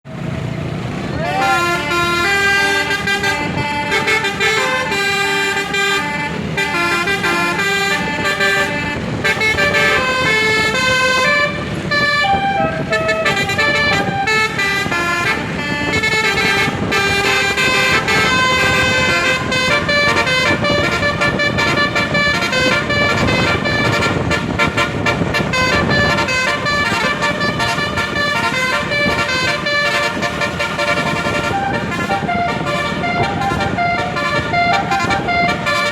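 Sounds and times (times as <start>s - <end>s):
multi-tone air horn melody: 1.2s - 35.9s.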